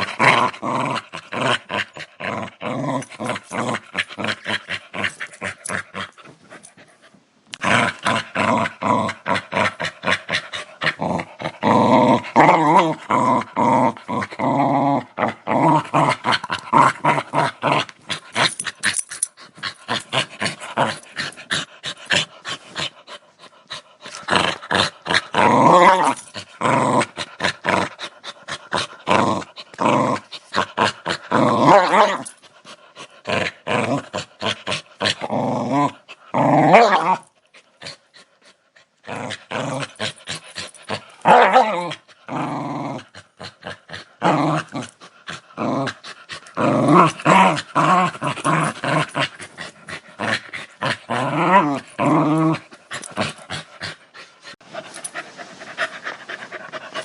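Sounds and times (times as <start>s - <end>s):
dog growling: 0.0s - 6.6s, 7.5s - 57.0s.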